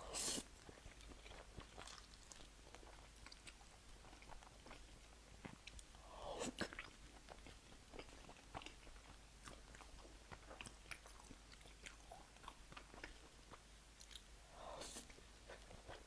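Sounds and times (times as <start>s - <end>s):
person chewing food: 0.1s - 16.0s.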